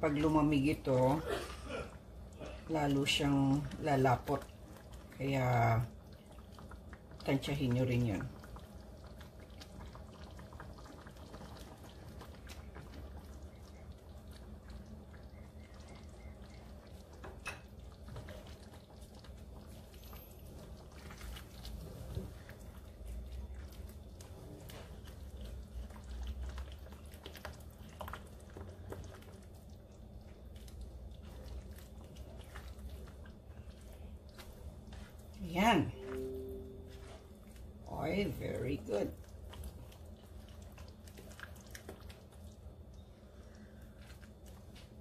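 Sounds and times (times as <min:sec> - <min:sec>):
low steady hum: 0:00.0 - 0:45.0
thick sauce squelching and simmering: 0:00.0 - 0:45.0.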